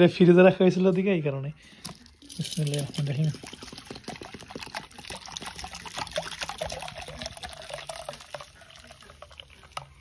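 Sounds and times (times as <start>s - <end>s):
milk pouring into metal pot: 1.8s - 10.0s.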